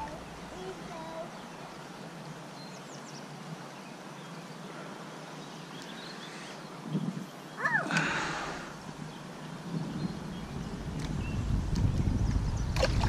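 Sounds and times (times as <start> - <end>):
stream flowing over riffles: 0.0 - 13.0.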